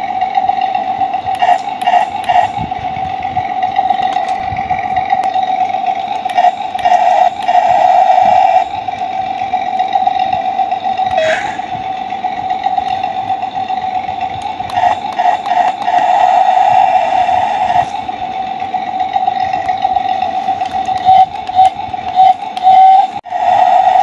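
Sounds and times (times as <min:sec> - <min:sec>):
toy motor high-pitched whine: 0:01.2 - 0:08.8, 0:10.3 - 0:11.9, 0:12.5 - 0:18.1, 0:19.6 - 0:24.0.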